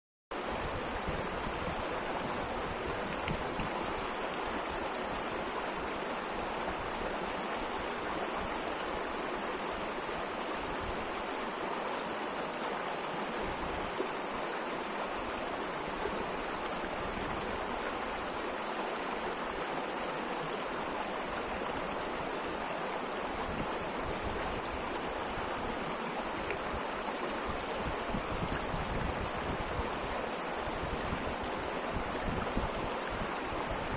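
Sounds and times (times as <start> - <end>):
river flowing: 0.3 - 33.9.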